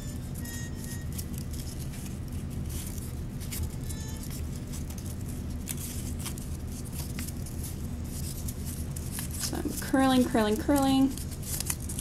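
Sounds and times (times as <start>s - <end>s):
steady low hum: 0.0s - 12.0s
paper strip crinkling: 0.2s - 12.0s.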